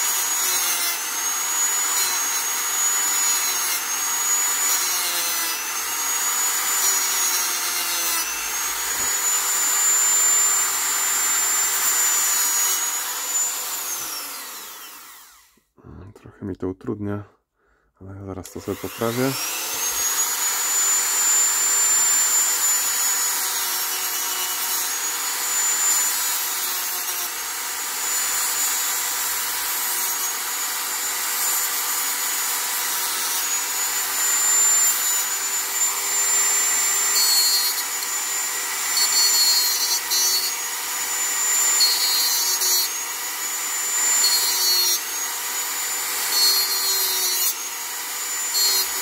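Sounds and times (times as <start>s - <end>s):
rotary tool whining: 0.0s - 15.6s, 18.5s - 49.0s.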